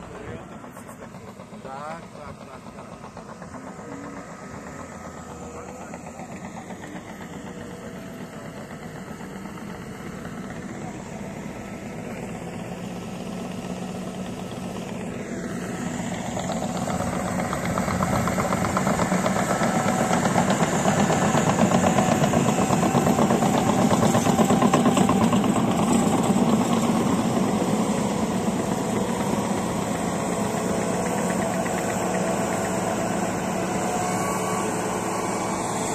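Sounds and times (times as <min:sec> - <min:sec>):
heavy diesel engines running: 0:00.0 - 0:35.9.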